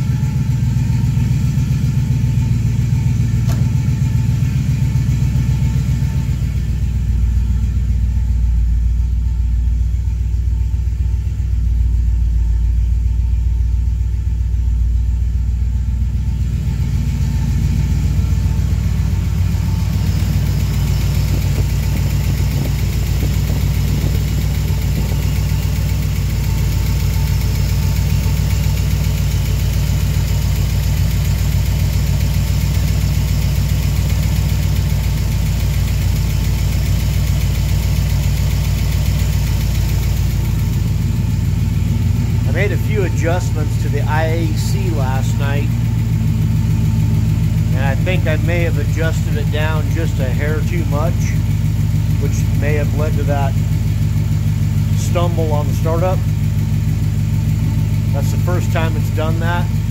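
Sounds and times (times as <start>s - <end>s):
car engine idling: 0.0s - 59.9s
engine ticking: 0.0s - 59.9s.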